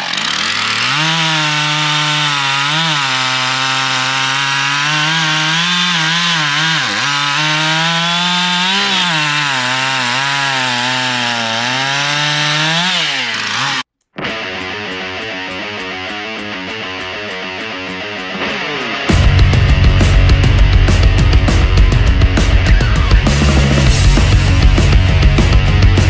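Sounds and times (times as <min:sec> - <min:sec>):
chainsaw cutting wood: 0:00.0 - 0:13.9, 0:17.4 - 0:26.0.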